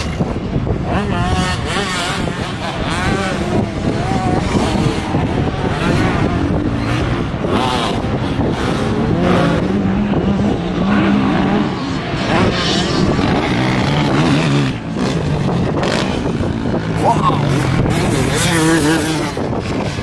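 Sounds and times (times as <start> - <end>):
off-road engines revving: 0.0 - 20.0.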